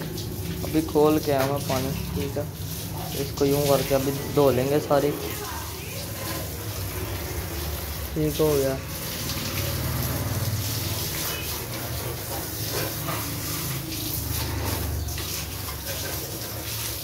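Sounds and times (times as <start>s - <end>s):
hose water spraying and splashing: 0.0s - 17.0s.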